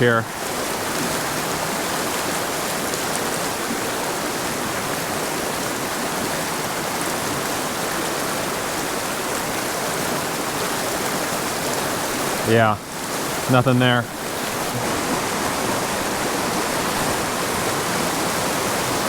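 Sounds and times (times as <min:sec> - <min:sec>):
creek rushing over rocks: 0:00.0 - 0:19.0.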